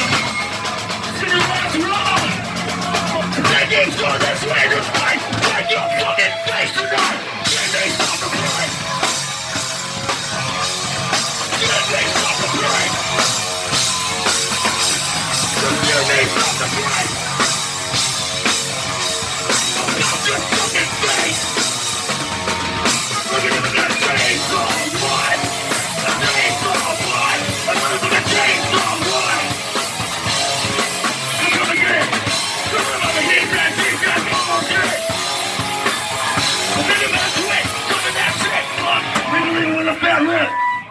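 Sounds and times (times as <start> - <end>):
drum kit: 0.0 - 40.1
loud fast punk rock band: 0.0 - 40.9.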